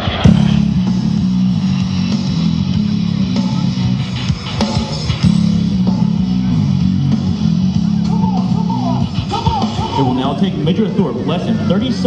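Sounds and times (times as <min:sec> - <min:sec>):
rock music with guitar riff: 0:00.0 - 0:12.0.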